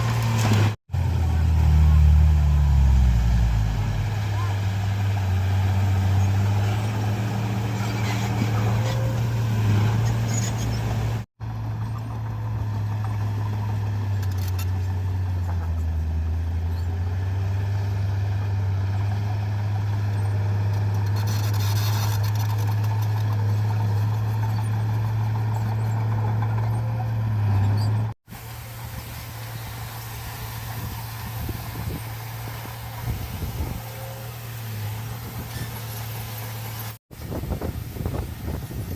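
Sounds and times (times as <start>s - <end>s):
bulldozer diesel engine humming: 0.0s - 38.9s.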